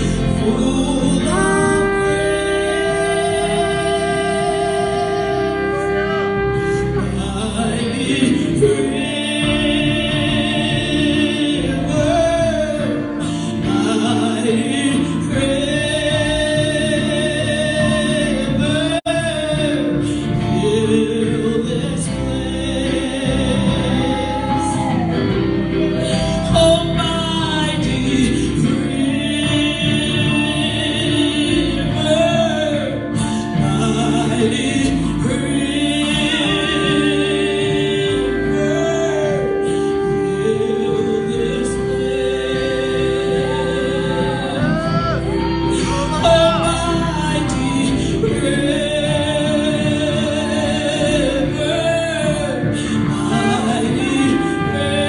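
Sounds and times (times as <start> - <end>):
electric guitar: 0.0 - 55.0
woman singing gospel: 0.0 - 55.0.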